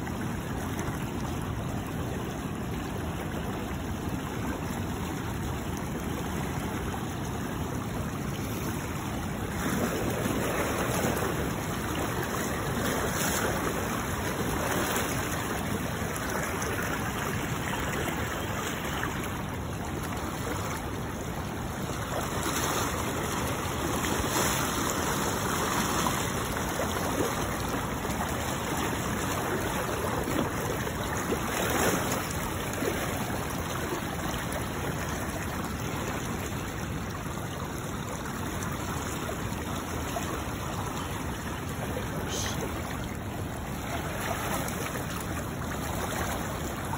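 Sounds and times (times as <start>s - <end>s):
river rushing over rapids: 0.0s - 46.9s.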